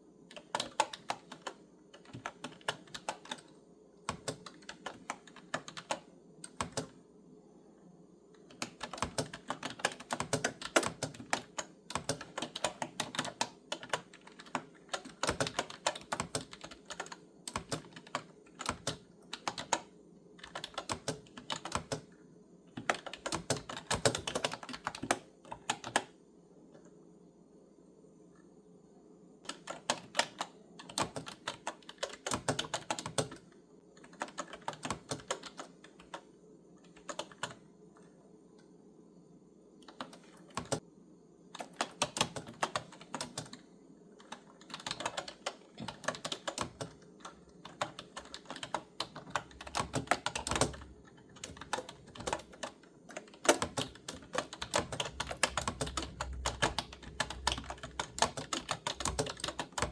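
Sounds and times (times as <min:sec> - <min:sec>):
clicky keyboard typing: 0:00.3 - 0:07.0, 0:08.4 - 0:27.0, 0:29.4 - 0:38.7, 0:39.8 - 0:40.8, 0:41.5 - 0:59.9.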